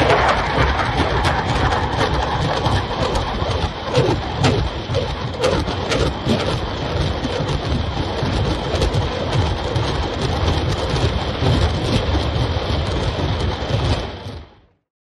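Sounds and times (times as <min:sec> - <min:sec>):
rumble of overlapping explosions: 0:00.0 - 0:14.8.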